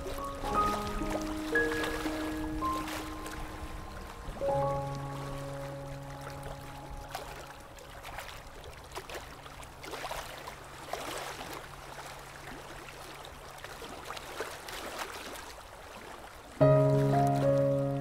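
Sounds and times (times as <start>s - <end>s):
sea waves washing on shore: 0.0s - 18.0s.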